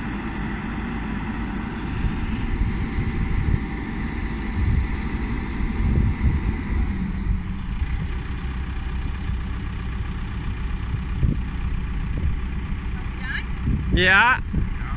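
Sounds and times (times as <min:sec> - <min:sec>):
diesel engine running: 0:00.0 - 0:14.9
hydraulics working: 0:00.0 - 0:14.9.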